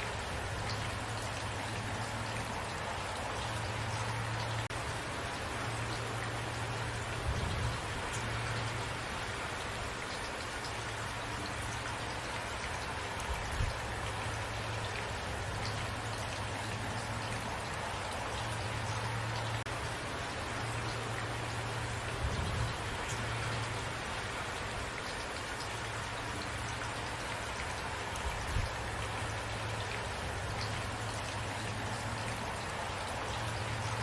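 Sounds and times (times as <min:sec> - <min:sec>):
raindrops tapping on a surface: 0:00.0 - 0:34.0
steady rain: 0:00.0 - 0:34.0.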